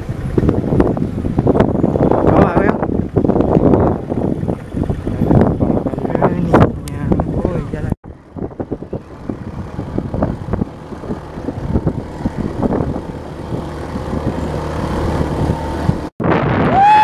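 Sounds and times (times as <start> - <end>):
motorcycle engines droning: 0.0 - 16.1.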